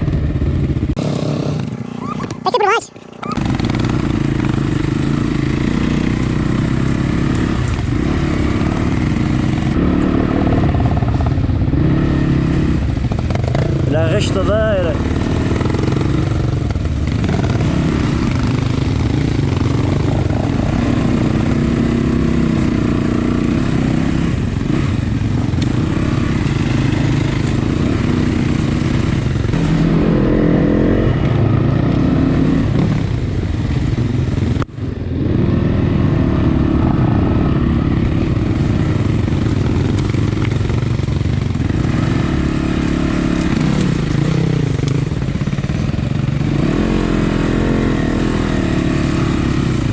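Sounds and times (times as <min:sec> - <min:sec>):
off-road motorcycle engine revving: 0:00.0 - 0:49.9.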